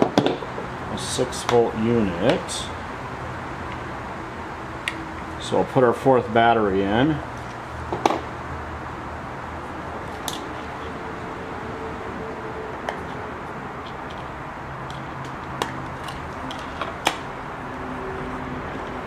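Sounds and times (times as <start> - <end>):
background hiss and hum: 0.0 - 19.0.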